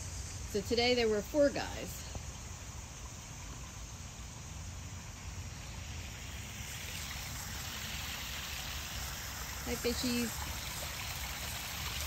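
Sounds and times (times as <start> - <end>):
small waterfall splashing: 2.1 - 12.0.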